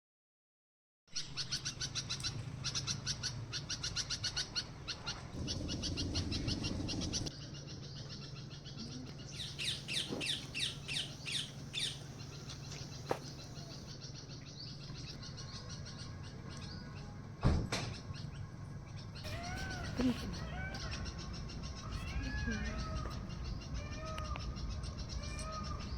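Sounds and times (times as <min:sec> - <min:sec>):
small birds chirping: 0:01.2 - 0:17.2, 0:17.9 - 0:25.9.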